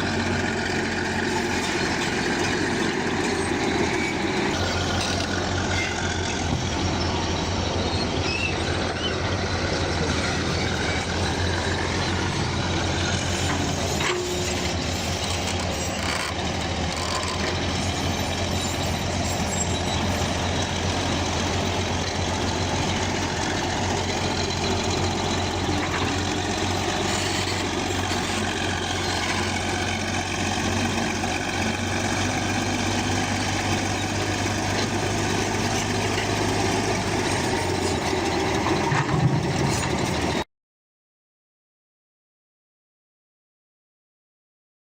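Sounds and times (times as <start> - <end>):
bulldozer diesel engine droning: 0.0 - 40.5.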